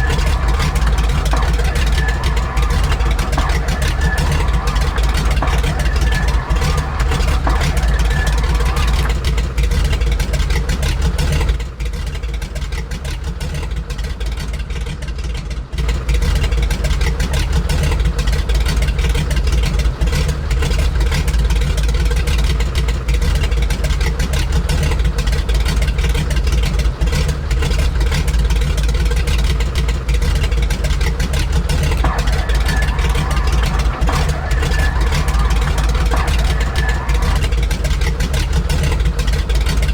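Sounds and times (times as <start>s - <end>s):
aircraft engines rumbling: 0.0s - 15.2s, 16.1s - 39.9s.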